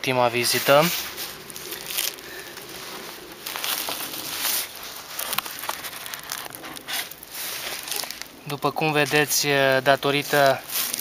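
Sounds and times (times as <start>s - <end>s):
plastic sheeting crinkling: 0.4s - 11.0s
scrapes and rustles: 0.4s - 11.0s.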